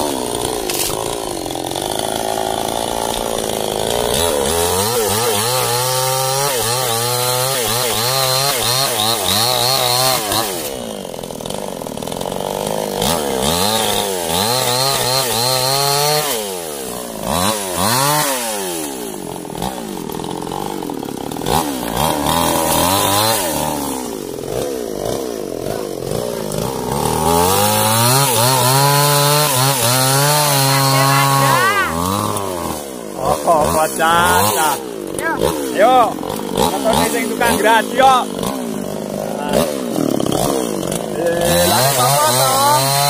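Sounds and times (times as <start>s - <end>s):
chainsaw cutting log: 0.0s - 43.0s.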